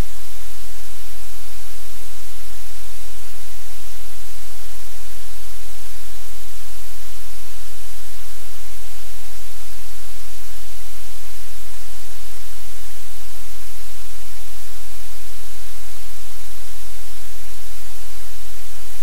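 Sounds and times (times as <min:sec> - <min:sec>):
static hiss: 0:00.0 - 0:19.0.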